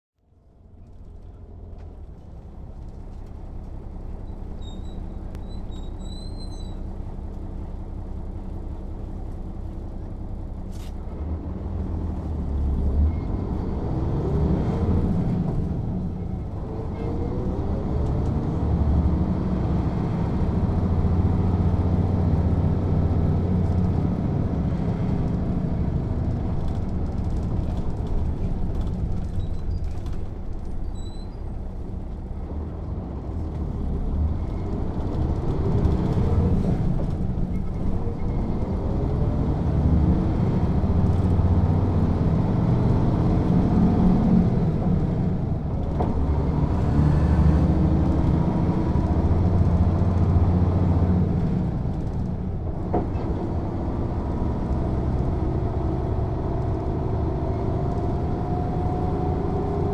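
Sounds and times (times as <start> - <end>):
diesel bus engine accelerating: 0.2 - 59.9.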